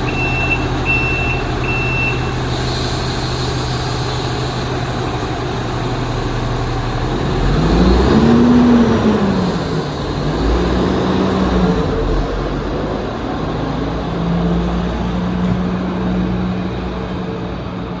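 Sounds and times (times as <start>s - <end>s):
truck engine revving: 0.0s - 17.7s.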